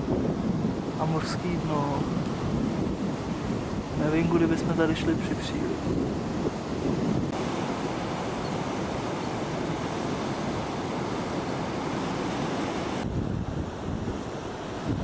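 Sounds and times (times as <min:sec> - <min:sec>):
surf breaking over rocks: 0:00.0 - 0:13.2.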